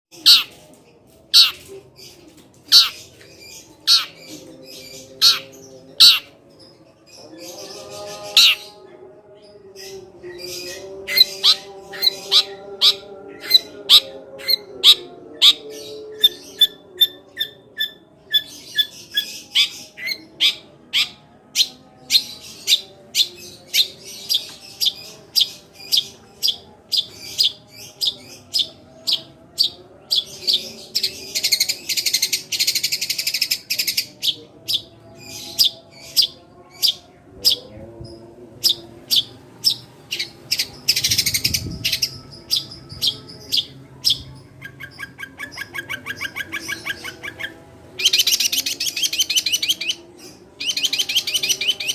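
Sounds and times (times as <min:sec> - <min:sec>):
sparrow chirping: 0:00.2 - 0:00.6, 0:01.4 - 0:01.7, 0:02.7 - 0:06.4, 0:07.2 - 0:08.8, 0:09.6 - 0:37.7, 0:38.6 - 0:51.9.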